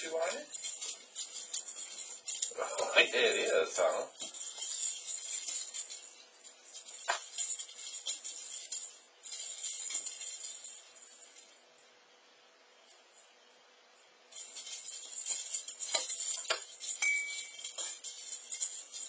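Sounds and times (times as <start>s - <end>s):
jingle ball bell rattling: 0.0s - 11.7s, 14.3s - 19.0s.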